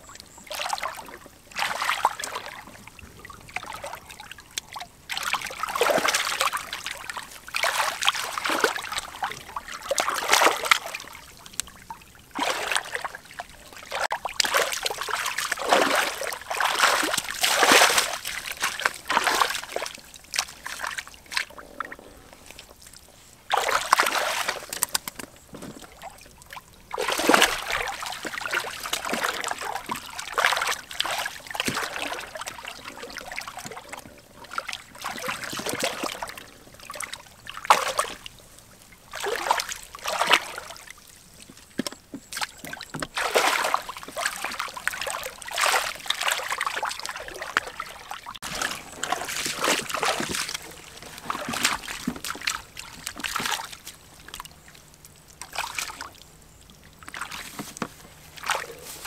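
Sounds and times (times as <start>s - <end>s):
muddy water splashing: 0.0s - 59.0s.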